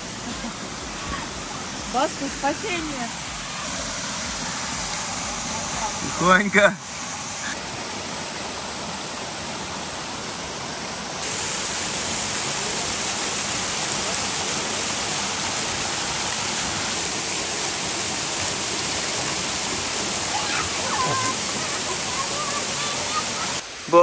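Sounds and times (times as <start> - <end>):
waterfall splashing into pool: 0.0 - 24.0.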